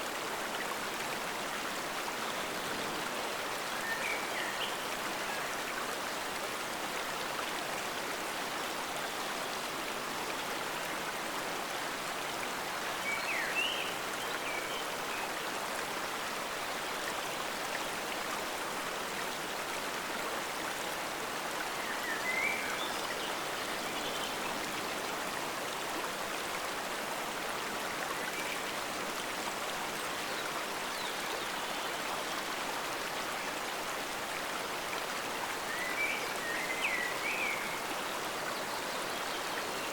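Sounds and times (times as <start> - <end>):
stream rushing and bubbling: 0.0 - 39.9.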